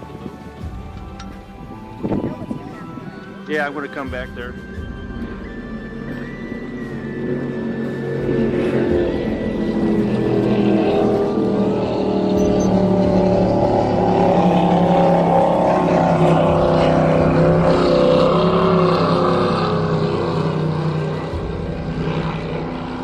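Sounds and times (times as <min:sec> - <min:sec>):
motorboat engine droning: 0:00.0 - 0:23.0.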